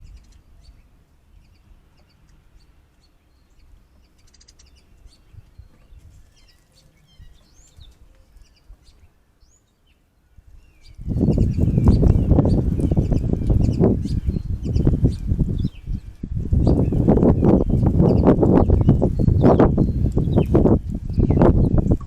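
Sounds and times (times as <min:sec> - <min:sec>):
wind rumble on microphone: 0:00.0 - 0:02.7, 0:04.7 - 0:09.1, 0:10.3 - 0:22.0
bird chirps and calls: 0:00.0 - 0:22.0.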